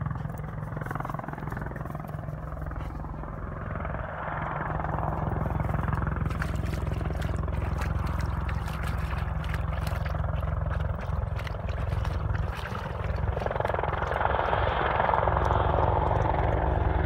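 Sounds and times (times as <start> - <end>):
helicopter engine noise: 0.0 - 17.0
helicopter rotor chopping: 0.0 - 17.0.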